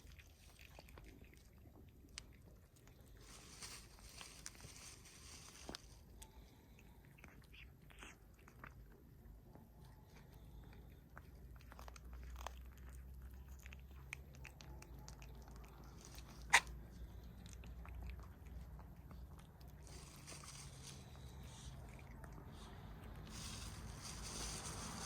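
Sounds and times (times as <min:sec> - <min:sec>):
cat crunching and chewing: 0:00.0 - 0:25.0.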